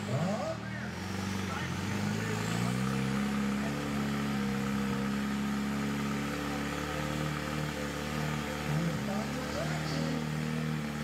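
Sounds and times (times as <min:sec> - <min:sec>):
buggy engine running at low revs: 0:00.0 - 0:11.0.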